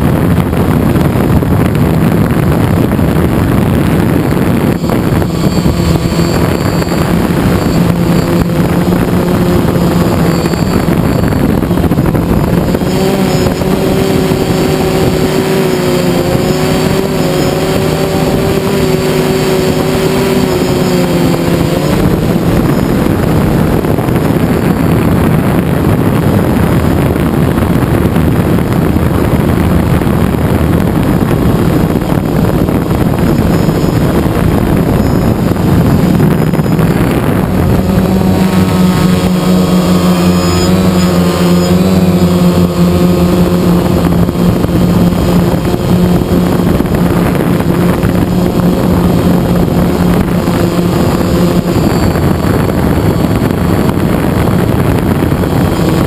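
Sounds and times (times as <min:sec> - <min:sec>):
drone propellers whirring: 0:00.0 - 0:56.0
wind rushing over microphone: 0:00.0 - 0:56.0
wavering motor tones: 0:00.1 - 0:56.0.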